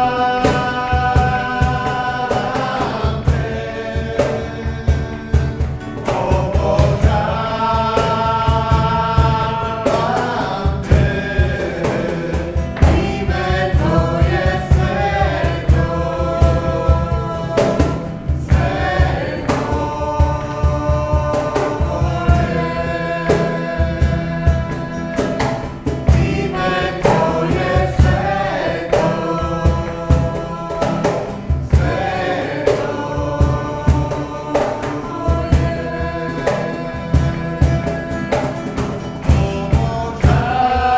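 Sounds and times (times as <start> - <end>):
acoustic guitar strumming: 0.0 - 40.9
people singing together: 0.0 - 40.9.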